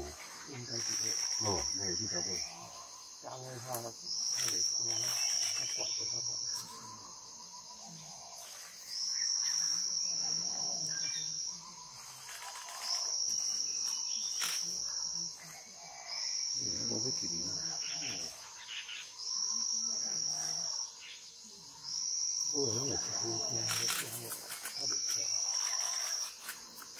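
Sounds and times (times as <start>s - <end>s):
insect buzzing: 0.0s - 26.9s.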